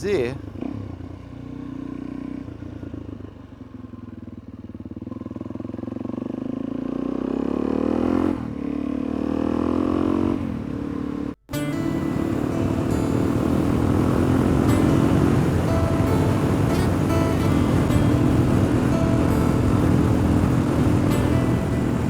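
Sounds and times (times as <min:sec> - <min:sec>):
motorcycle engine shifting gears: 0:00.0 - 0:22.0.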